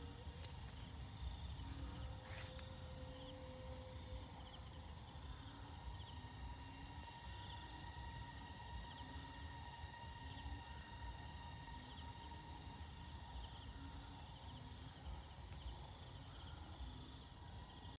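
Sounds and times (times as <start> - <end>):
crickets buzzing: 0.0 - 17.9
insect pulsing trill: 0.0 - 17.9.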